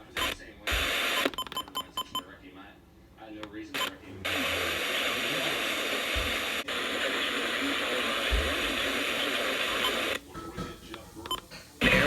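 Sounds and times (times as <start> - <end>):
radio static hiss: 0.0 - 2.1, 3.5 - 12.0.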